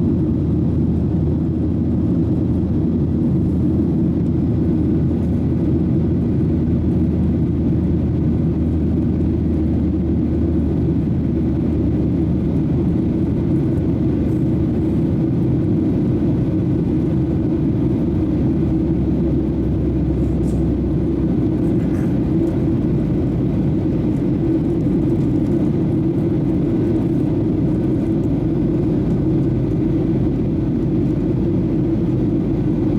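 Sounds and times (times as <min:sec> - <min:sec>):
jet engine cabin rumble: 0:00.0 - 0:32.9.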